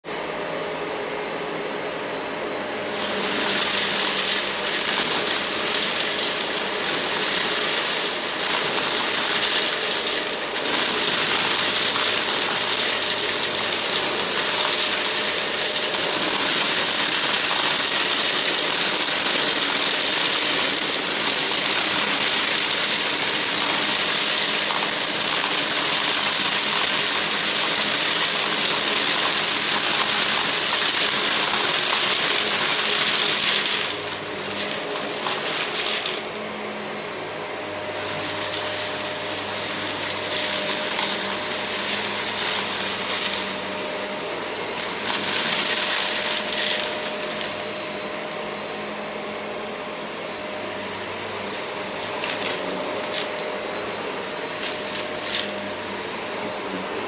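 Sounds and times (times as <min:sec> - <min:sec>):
vacuum cleaner running on carpet: 0:00.1 - 0:57.0
vacuum sucking up confetti: 0:02.7 - 0:36.4, 0:37.2 - 0:48.7, 0:50.3 - 0:56.0.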